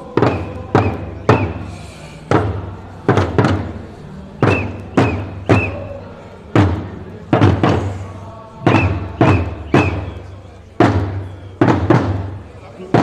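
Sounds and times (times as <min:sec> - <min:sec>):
frame drums booming: 0:00.0 - 0:13.0.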